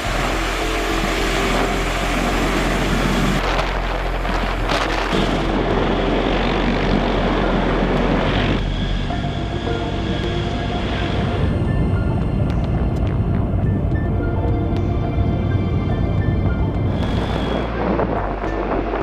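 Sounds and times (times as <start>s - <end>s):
helicopter turbine engines and rotor: 0.0s - 18.7s.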